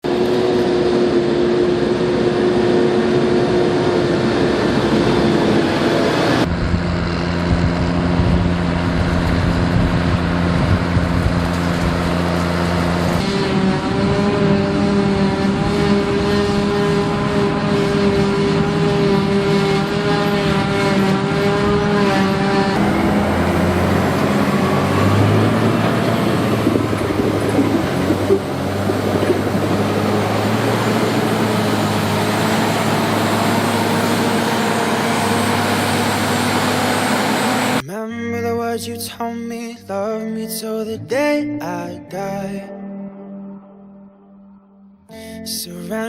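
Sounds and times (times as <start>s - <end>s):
farm machinery engines running: 0.0s - 37.8s.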